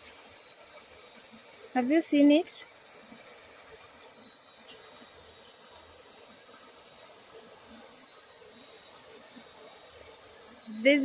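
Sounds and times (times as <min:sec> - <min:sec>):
insects buzzing high-pitched: 0:00.0 - 0:11.0.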